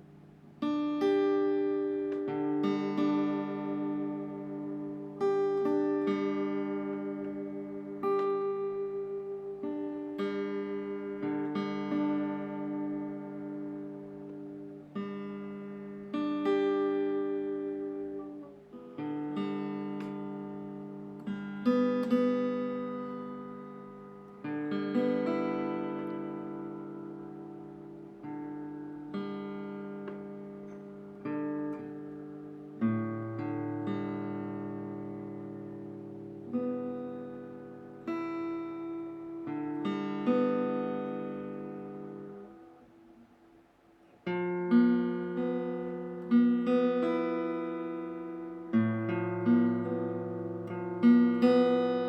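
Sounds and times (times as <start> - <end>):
acoustic guitar chords: 0.0 - 52.0.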